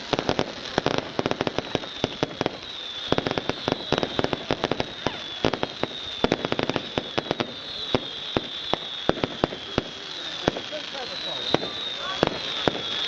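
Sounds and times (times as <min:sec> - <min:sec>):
fireworks cracks and bangs: 0:00.0 - 0:13.0
high falling whistle: 0:01.5 - 0:13.0.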